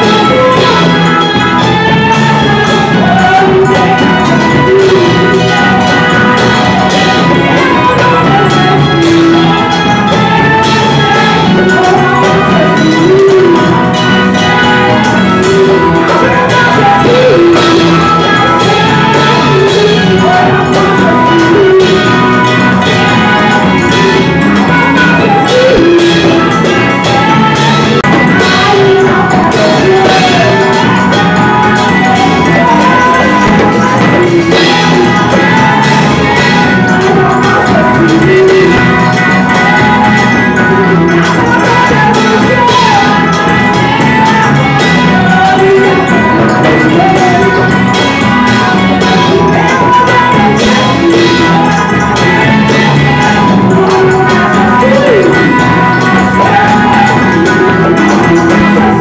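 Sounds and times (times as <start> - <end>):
electric bass guitar: 0.0 - 59.0
steady drum beat: 0.0 - 59.0
women singing into microphones: 0.0 - 59.0.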